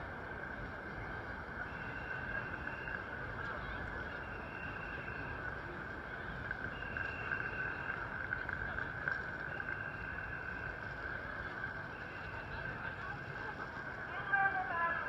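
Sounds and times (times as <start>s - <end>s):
crowd noise: 0.0s - 15.0s
traffic: 0.0s - 15.0s.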